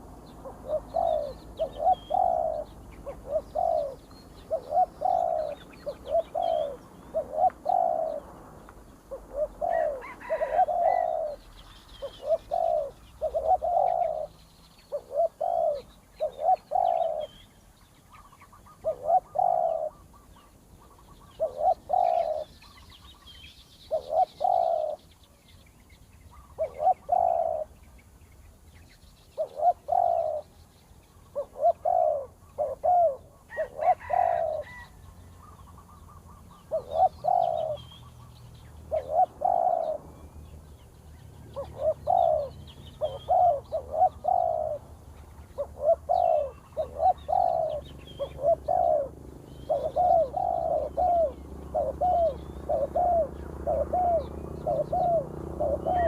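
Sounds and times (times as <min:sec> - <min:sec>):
dove cooing: 0:00.0 - 0:17.5, 0:18.1 - 0:25.2, 0:26.3 - 0:27.8, 0:29.3 - 0:30.6, 0:31.2 - 0:40.3, 0:41.4 - 0:56.0
small birds chirping: 0:00.0 - 0:56.0.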